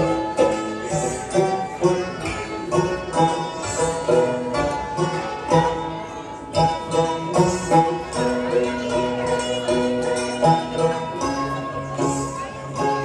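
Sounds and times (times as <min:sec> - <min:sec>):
hammered dulcimer string ensemble: 0:00.0 - 0:13.0.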